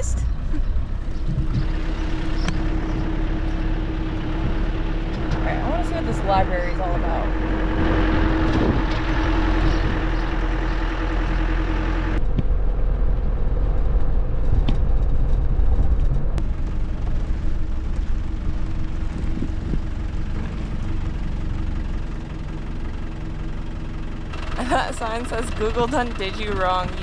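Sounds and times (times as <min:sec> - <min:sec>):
truck engine droning: 0:00.0 - 0:27.0.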